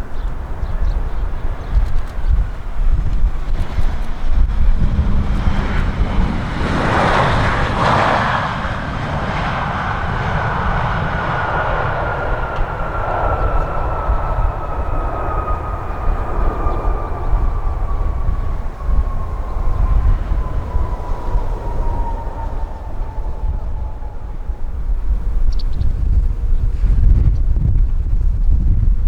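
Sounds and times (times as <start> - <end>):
airliner engines whining: 0.0 - 29.0
wind rumbling on microphone: 0.0 - 29.0.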